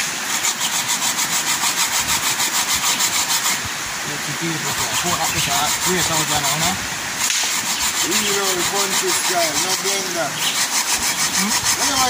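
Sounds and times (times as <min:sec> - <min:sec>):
coconut scraping on metal grater: 0:00.0 - 0:03.6, 0:04.6 - 0:12.0.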